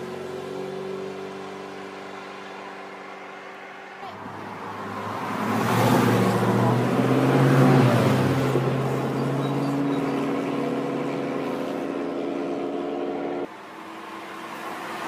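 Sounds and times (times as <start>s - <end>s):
engine approaching: 0.0s - 15.0s
sports cars driving past: 0.0s - 15.0s.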